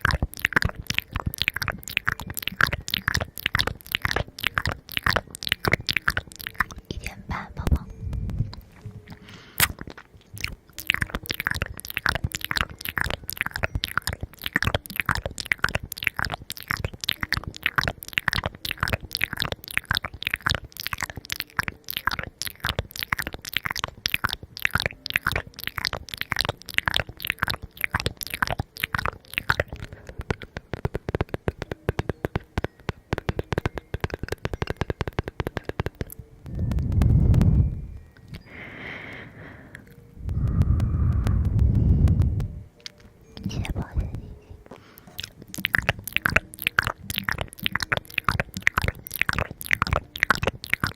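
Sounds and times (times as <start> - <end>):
crunchy food chewing: 0.0 - 6.9, 7.7 - 37.5, 44.7 - 50.9.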